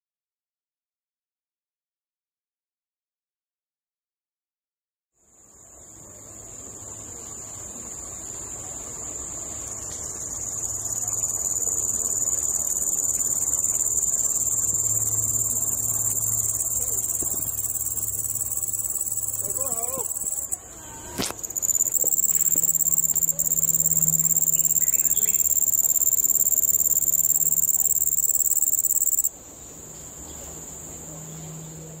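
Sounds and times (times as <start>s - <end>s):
cricket trilling: 5.6s - 32.0s.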